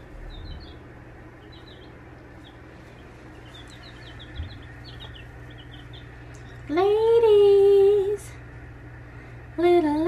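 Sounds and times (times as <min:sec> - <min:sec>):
chicks peeping: 0:00.0 - 0:08.2
low steady hum: 0:00.0 - 0:10.0.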